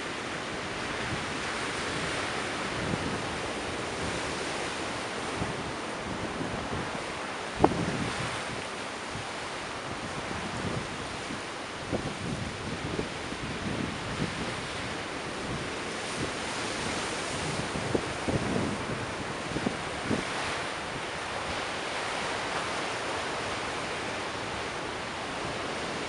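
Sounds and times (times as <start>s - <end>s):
ocean surf breaking: 0.0s - 26.0s
wind buffeting microphone: 0.6s - 26.0s.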